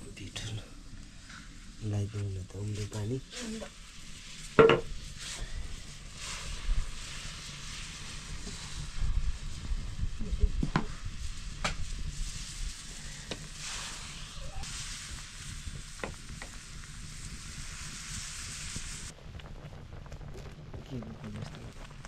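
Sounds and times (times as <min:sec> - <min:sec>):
boiling pot hiss: 0:00.0 - 0:22.0.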